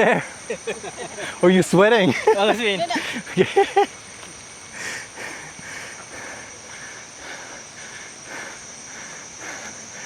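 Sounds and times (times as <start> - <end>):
high-pitched insect drone: 0.0 - 10.0
rhythmic insect chirp: 0.0 - 10.0.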